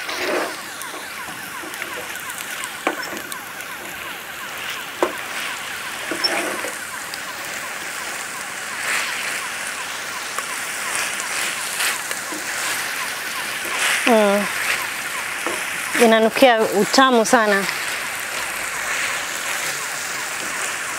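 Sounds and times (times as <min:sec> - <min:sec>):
food sizzling in a pan: 0:00.0 - 0:20.9.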